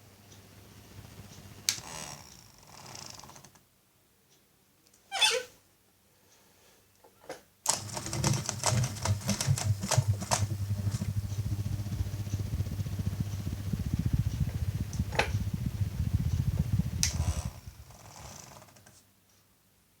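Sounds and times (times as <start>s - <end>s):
ceiling fan humming and rattling: 0.0s - 20.0s.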